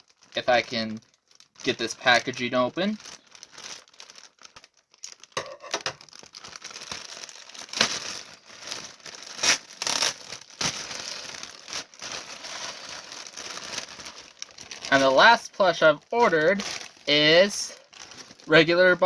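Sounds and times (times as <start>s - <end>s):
plastic packaging crinkling: 0.0s - 19.0s
plastic tearing crackles: 0.0s - 19.0s.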